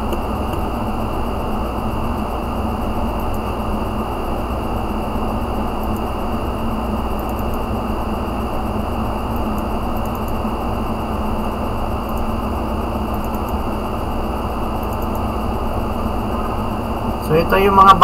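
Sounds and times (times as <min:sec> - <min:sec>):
machine hum and hiss: 0:00.0 - 0:18.0.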